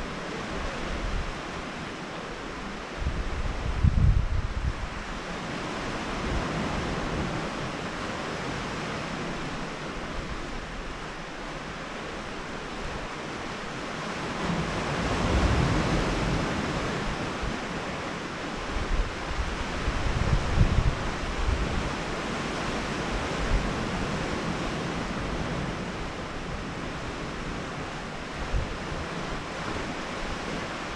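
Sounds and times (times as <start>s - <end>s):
wind rumbling on microphone: 0.0s - 30.9s
surf washing against rocks: 4.6s - 30.9s.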